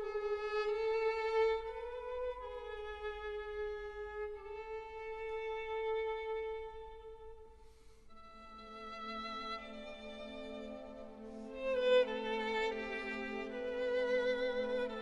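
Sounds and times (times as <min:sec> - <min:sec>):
solo violin melody: 0:00.0 - 0:15.0.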